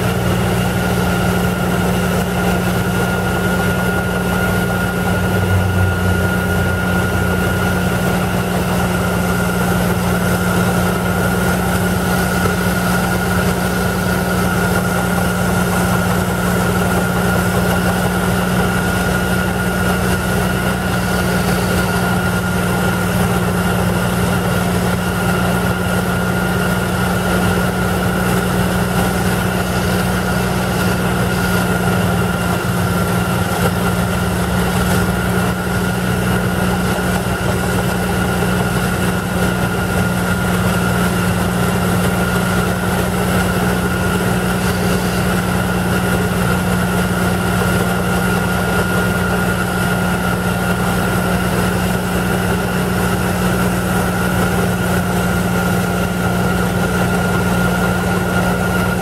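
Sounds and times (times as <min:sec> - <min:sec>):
pneumatic drilling rigs droning: 0:00.0 - 0:59.0.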